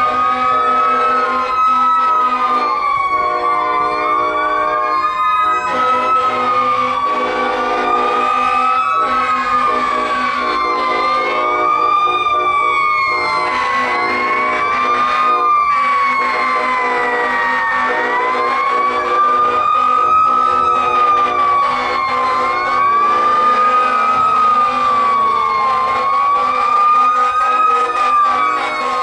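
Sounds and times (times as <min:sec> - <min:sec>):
fire truck sirens wailing: 0:00.0 - 0:29.0.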